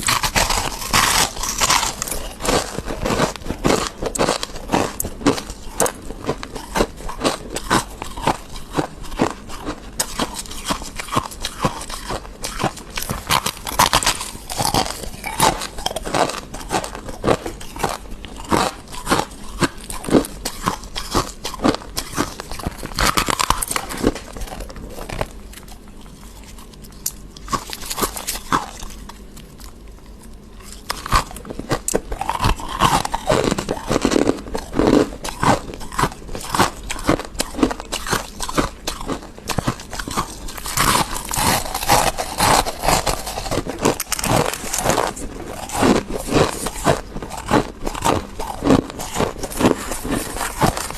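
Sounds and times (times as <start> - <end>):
chewing crunchy frost: 0.0 - 50.9.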